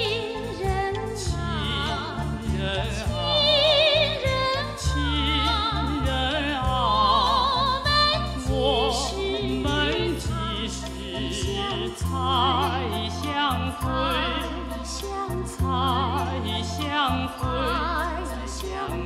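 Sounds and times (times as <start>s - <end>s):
instrumental accompaniment: 0.0s - 19.0s
woman singing operatically: 0.0s - 19.0s.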